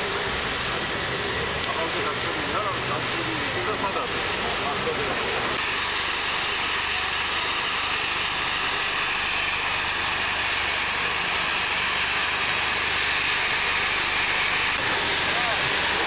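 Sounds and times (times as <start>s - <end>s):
industrial machinery hissing din: 0.0s - 16.0s.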